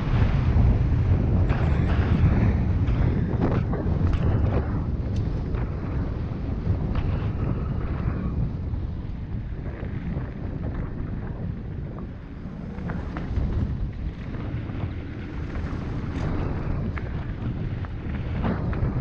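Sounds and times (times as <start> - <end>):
wind rumbling on microphone: 0.0 - 19.0
bike clicks and rattles: 0.6 - 19.0.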